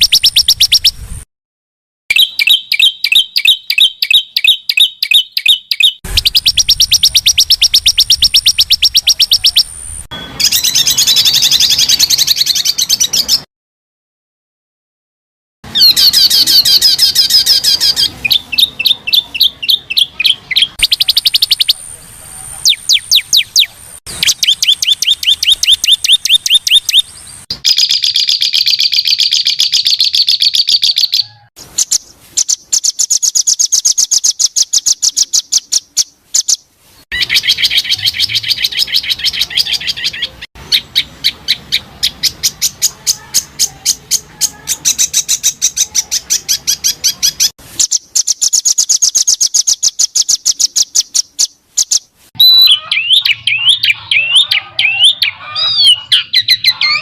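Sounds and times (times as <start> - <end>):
songbird chirping: 0.0 - 1.1, 2.1 - 13.5, 15.7 - 57.0.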